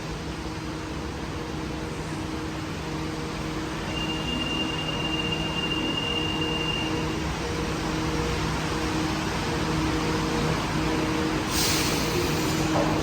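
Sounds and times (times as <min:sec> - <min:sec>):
metro train hum: 0:00.0 - 0:13.0.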